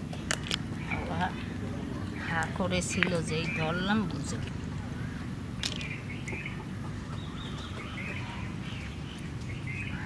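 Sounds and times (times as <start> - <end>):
low background noise: 0.0 - 10.0
birds chirping: 0.1 - 10.0.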